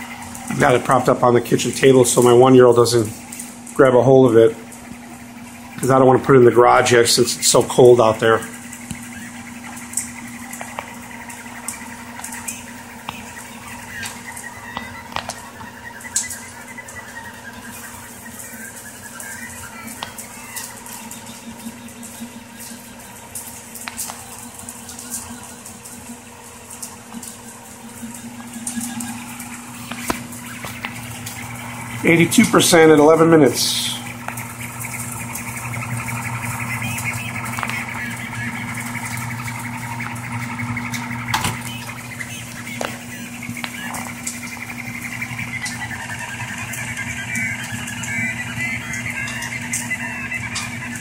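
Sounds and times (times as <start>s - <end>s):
faint whirring: 0.0s - 51.0s
printer motors and fans humming: 0.0s - 51.0s.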